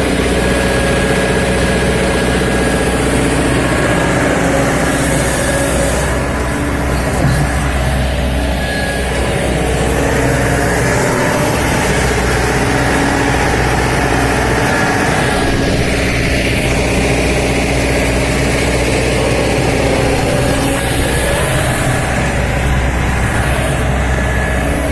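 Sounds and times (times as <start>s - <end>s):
diesel machinery engine running: 0.0s - 24.9s.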